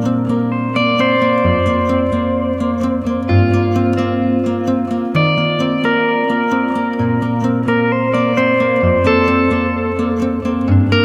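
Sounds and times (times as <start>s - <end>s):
plucked-string instrumental music: 0.0s - 11.0s.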